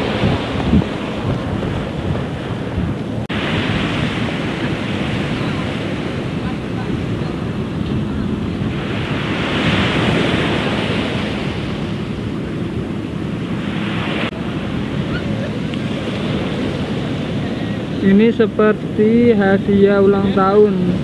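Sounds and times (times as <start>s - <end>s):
small waves washing on sand: 0.0s - 21.0s
wind buffeting microphone: 0.0s - 21.0s.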